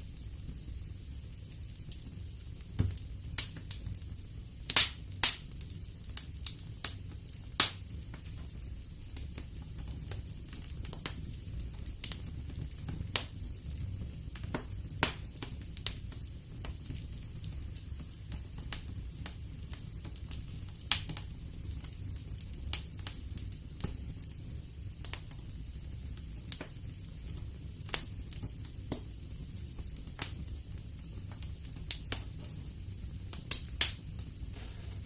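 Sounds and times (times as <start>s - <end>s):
low steady fire rumble: 0.0s - 35.0s
wood fire crackling and popping: 0.0s - 35.0s.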